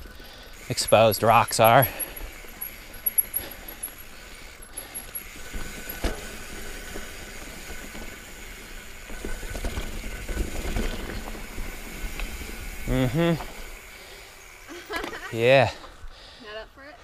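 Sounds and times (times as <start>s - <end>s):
bike rattling: 0.0s - 16.0s
bike tyre noise: 0.0s - 16.4s.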